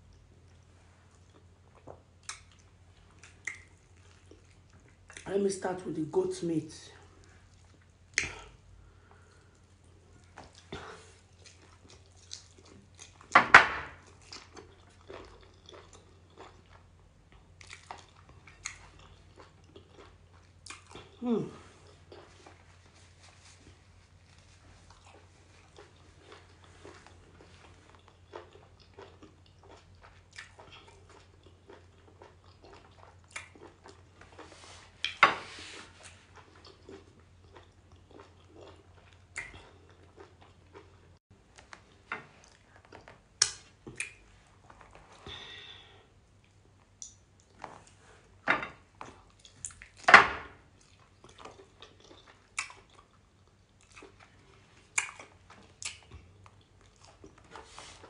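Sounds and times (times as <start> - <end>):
chewing and wet mouth sounds: 0.0 - 5.6, 7.0 - 13.4, 14.0 - 35.2, 35.9 - 45.2, 46.3 - 58.0.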